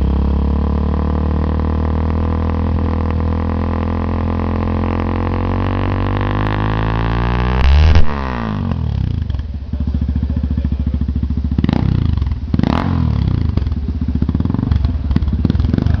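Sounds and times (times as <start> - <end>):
motorcycle engine revving and idling: 0.0 - 16.0.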